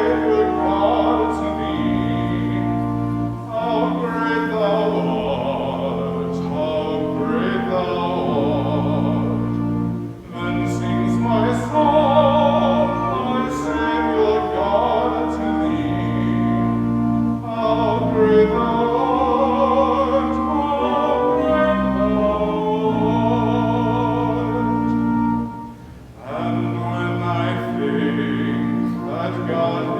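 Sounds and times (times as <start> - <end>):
person singing with vibrato: 0.0 - 29.9
sustained accompaniment: 0.0 - 29.9.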